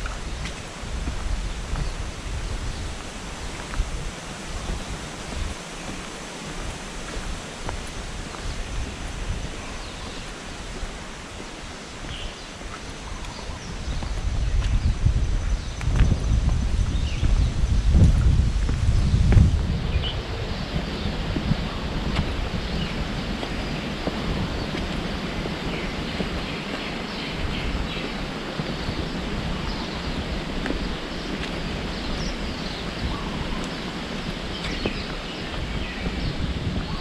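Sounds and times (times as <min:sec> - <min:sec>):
steady forest hiss: 0:00.0 - 0:37.0
wind rumble on microphone: 0:00.0 - 0:37.0.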